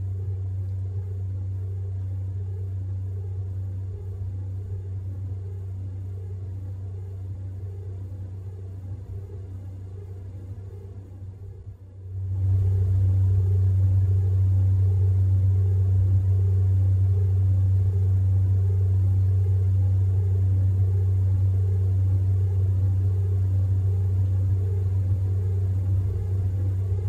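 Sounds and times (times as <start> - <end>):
faint wavering tone: 0.0 - 27.0
steady low drone: 0.0 - 27.0.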